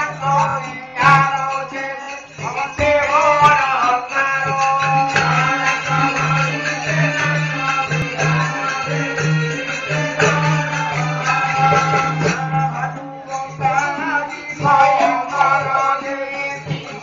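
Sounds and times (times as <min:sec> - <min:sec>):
folk theatre music: 0:00.0 - 0:17.0.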